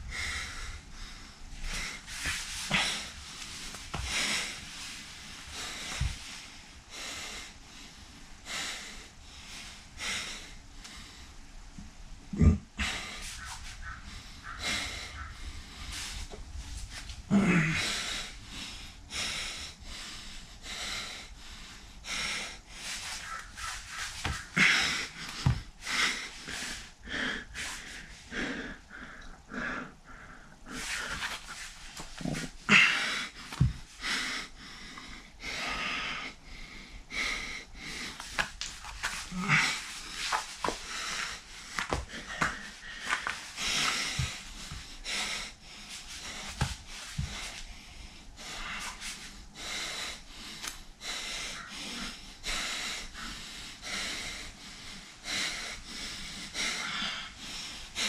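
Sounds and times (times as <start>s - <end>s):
man breathing hard: 0.0s - 58.0s.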